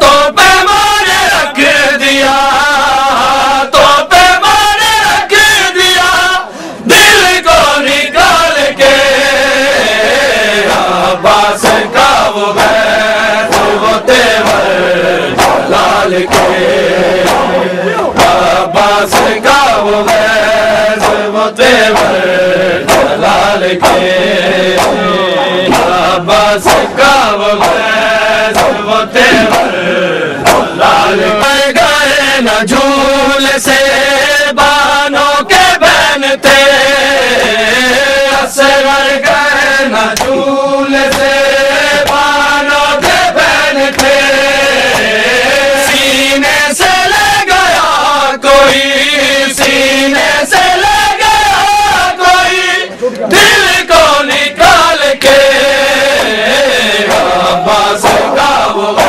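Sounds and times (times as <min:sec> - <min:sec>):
male voices chanting a lament: 0:00.0 - 0:59.0.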